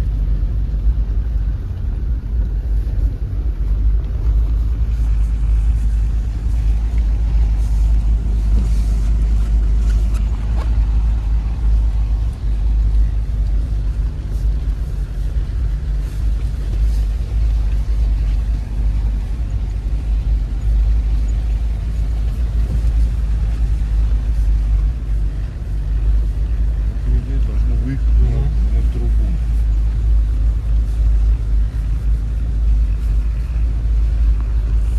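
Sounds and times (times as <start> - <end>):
vehicle driving on rough road: 0.0 - 34.9.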